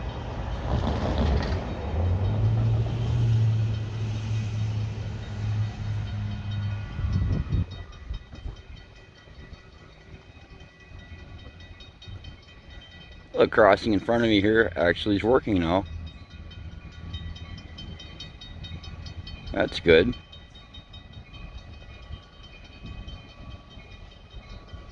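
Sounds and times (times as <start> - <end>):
diesel locomotive engine drone: 0.0 - 24.9
grade crossing bell ringing: 0.0 - 24.9.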